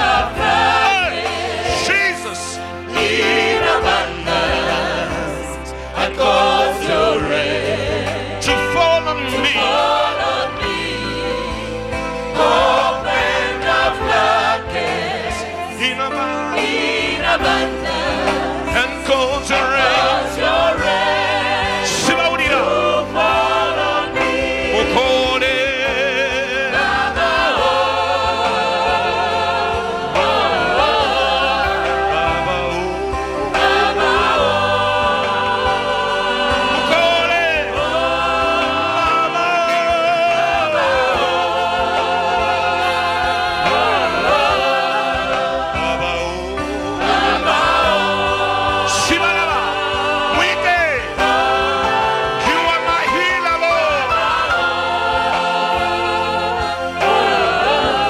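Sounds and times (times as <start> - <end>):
choir singing: 0.0 - 58.0
instrumental accompaniment: 0.0 - 58.0.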